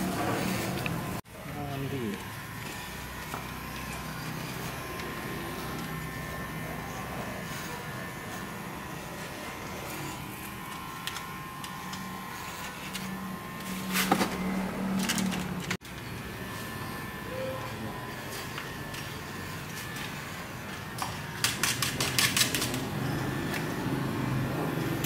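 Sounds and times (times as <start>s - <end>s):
electric hair clippers buzzing: 0.0s - 25.0s.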